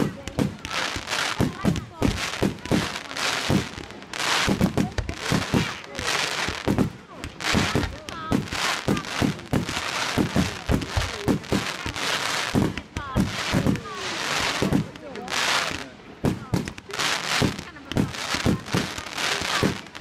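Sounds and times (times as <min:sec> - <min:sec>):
fireworks bangs: 0:00.0 - 0:20.0
fireworks crackling hiss: 0:00.0 - 0:20.0.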